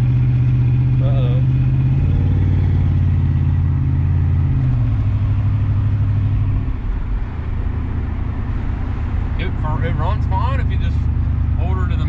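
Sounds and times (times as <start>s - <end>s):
car engine running under throttle: 0.0s - 12.0s.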